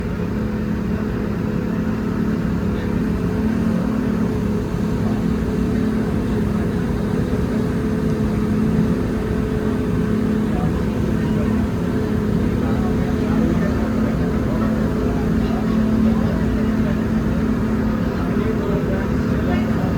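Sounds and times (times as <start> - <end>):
ferry engine humming: 0.0 - 19.9.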